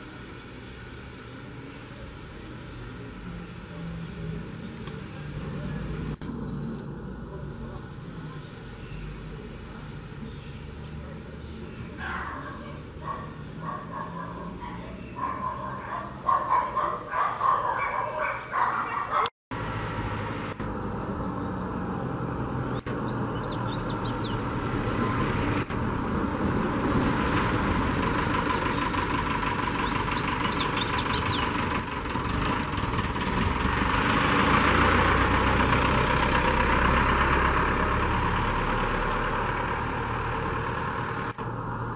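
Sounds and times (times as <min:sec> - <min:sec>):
passing motor vehicle rumble: 0:00.0 - 0:41.9.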